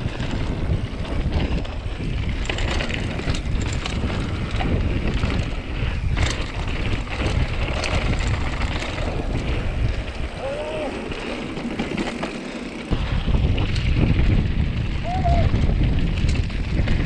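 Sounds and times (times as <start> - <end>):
bike rattling clicks: 0.0 - 17.0
tyres rolling on dirt trail: 0.0 - 17.0
wind rushing over microphone: 0.0 - 17.0.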